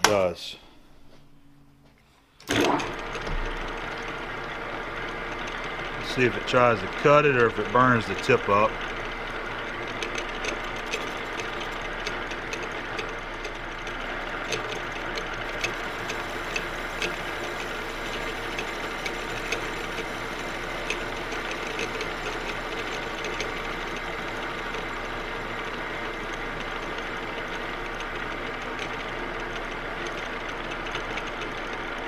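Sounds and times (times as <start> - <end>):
metal lathe humming: 2.5 - 32.0.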